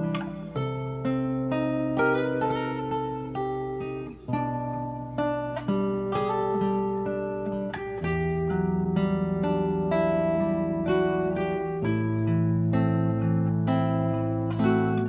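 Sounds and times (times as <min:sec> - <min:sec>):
fingerstyle nylon-string guitar: 0:00.0 - 0:15.0.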